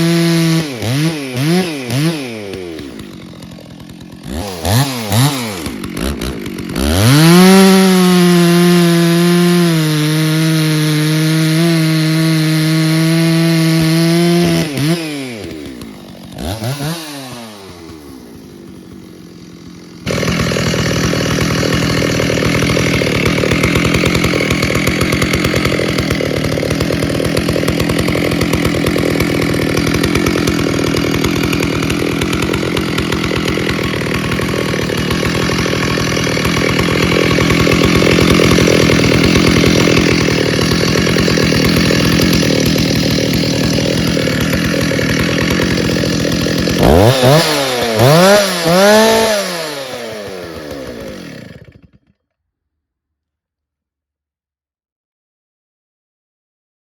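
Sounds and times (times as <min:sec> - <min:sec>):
chainsaw revving: 0:00.0 - 0:52.2
chainsaw cutting wood: 0:00.0 - 0:52.4.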